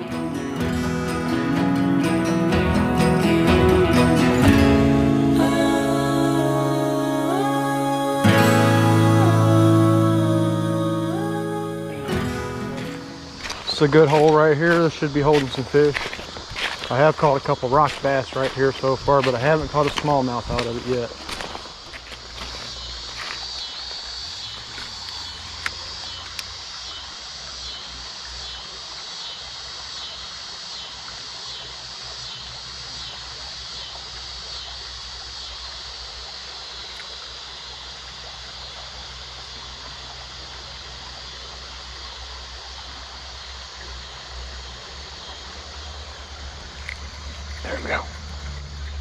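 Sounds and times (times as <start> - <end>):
creek water flowing: 0.0 - 49.0.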